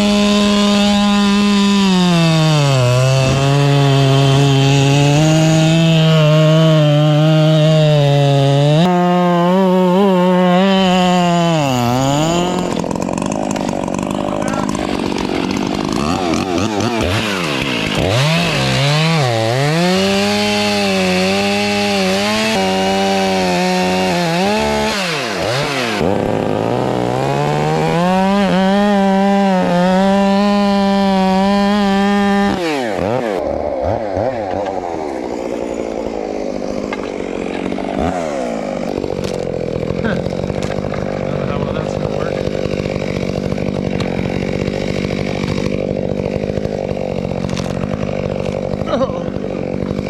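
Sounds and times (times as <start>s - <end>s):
chainsaw cutting a log: 0.0s - 50.0s.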